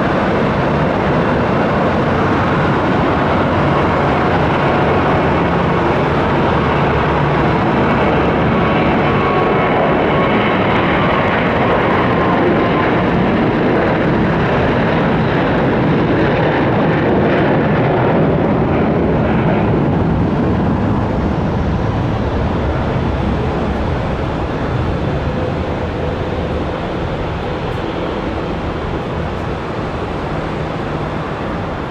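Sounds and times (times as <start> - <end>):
jet engines roaring: 0.0 - 31.9.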